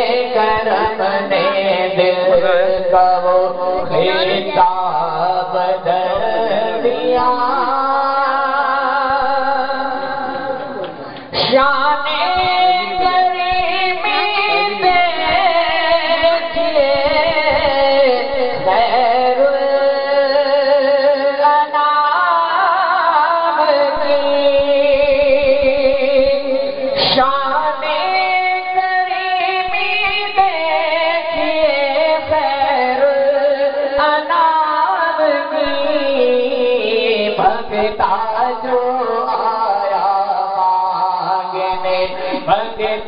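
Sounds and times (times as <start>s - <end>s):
person singing: 0.0s - 43.0s.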